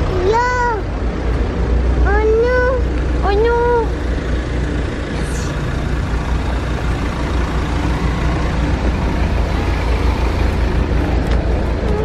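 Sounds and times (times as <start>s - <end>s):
outdoor traffic noise: 0.0s - 12.0s
vehicle engines rumbling: 0.0s - 12.0s.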